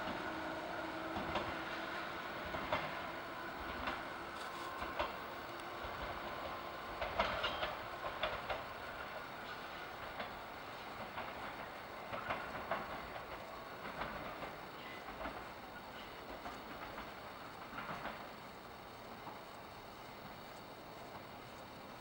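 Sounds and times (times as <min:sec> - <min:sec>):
rail car rolling on track: 0:00.0 - 0:22.0
wheels clicking over rail joints: 0:00.0 - 0:22.0.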